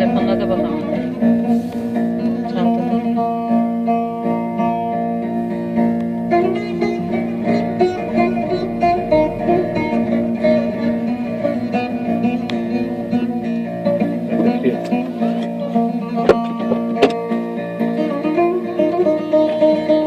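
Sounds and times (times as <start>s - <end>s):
plucked lute folk melody on radio: 0.0s - 20.0s.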